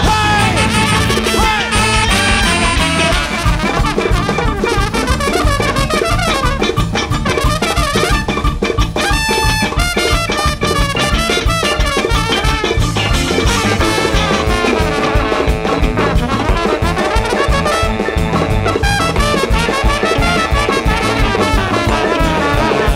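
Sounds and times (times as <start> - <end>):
fast drum rhythm: 0.0 - 22.9
jazz big band playing: 0.0 - 22.9
saxophones and trumpet: 0.0 - 22.9.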